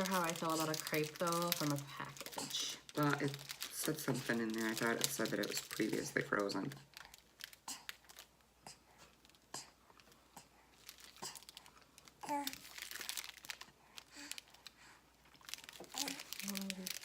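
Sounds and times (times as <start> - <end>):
plastic wrapper crinkling and tearing: 0.0 - 8.5, 9.1 - 17.0.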